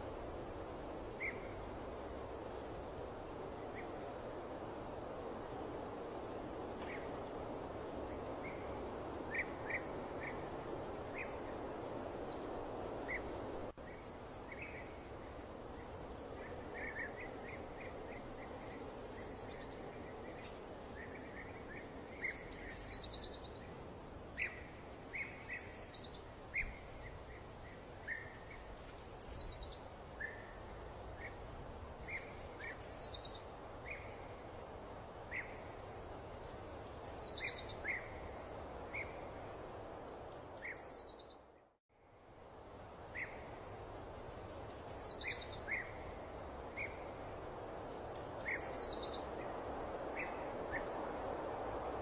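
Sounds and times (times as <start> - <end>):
background hiss: 0.0 - 52.0.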